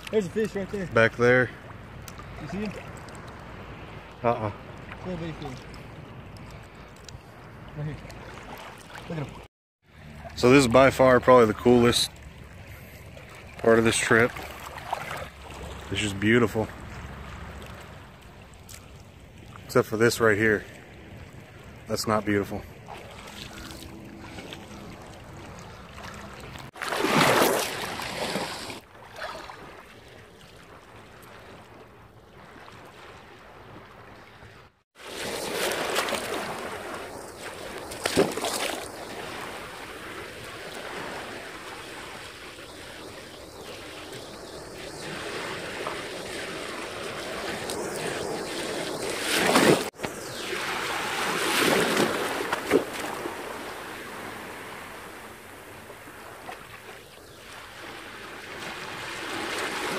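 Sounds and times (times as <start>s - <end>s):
small waves sloshing: 0.0s - 59.9s.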